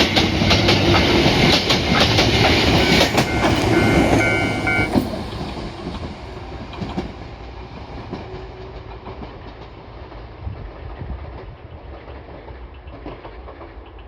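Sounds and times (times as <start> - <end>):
electric train running on track: 0.0 - 14.0
wheels clicking over rail joints: 0.0 - 14.0.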